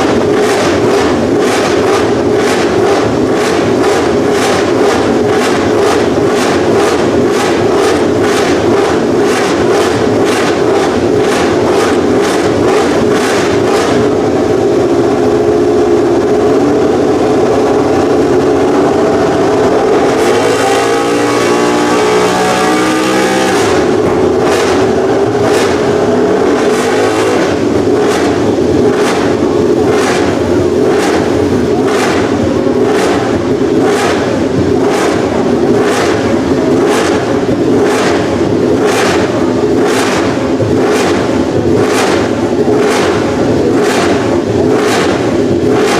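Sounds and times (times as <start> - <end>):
race bike engine running loud: 0.0 - 45.9.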